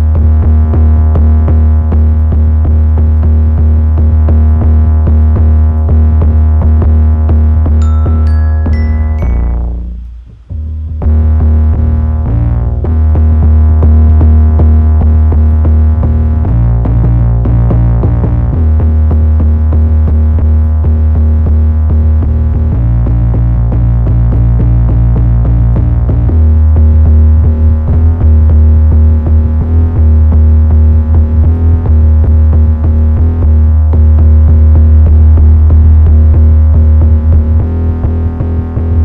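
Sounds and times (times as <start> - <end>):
distorted bass notes: 0.0 - 39.0.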